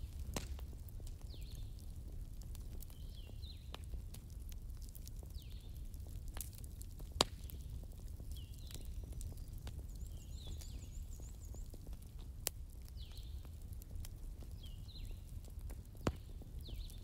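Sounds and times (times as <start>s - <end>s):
small birds chirping: 0.1s - 4.1s, 4.7s - 17.0s.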